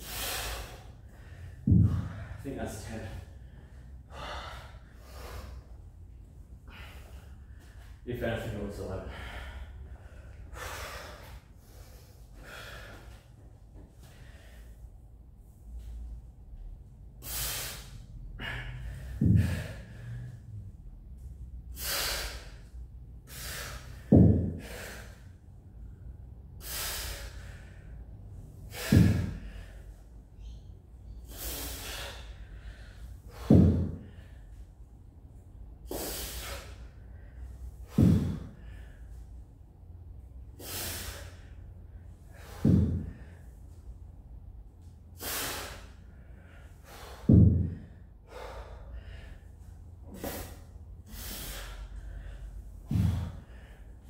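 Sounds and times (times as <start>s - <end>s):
man breathing heavily: 0.0s - 54.0s.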